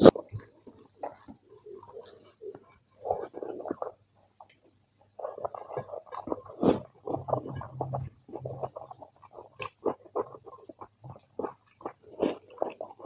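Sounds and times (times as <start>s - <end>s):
chewing with wet mouth noises: 0.0s - 13.0s.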